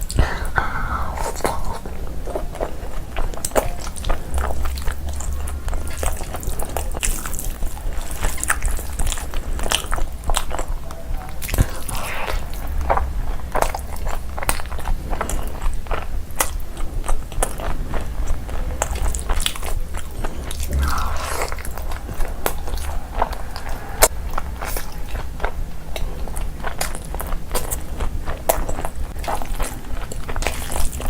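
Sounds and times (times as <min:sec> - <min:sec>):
person chewing food: 0:00.9 - 0:31.0.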